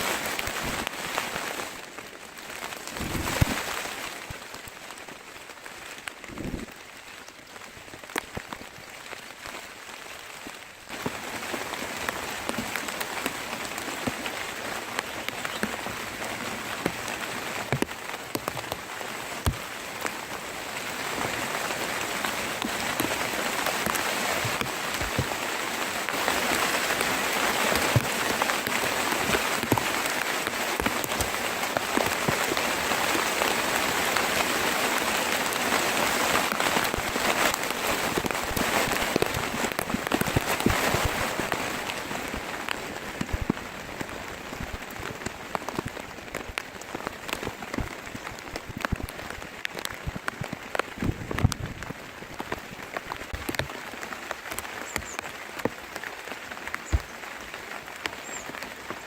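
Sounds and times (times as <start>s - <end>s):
close raindrops striking: 0.0s - 59.0s
rain falling: 0.0s - 59.0s.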